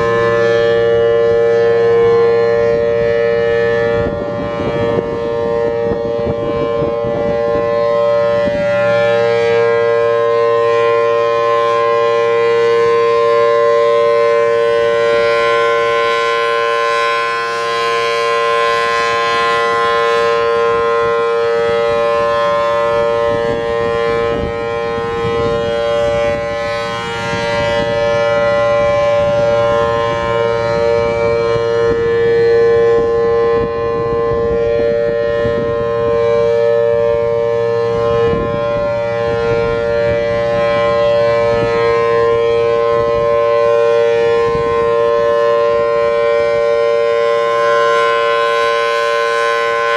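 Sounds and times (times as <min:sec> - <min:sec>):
siren two-tone alert: 0:00.0 - 0:49.9.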